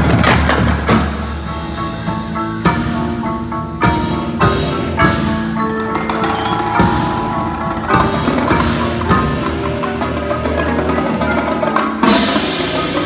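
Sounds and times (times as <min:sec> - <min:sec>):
drumline hits: 0:00.0 - 0:13.0.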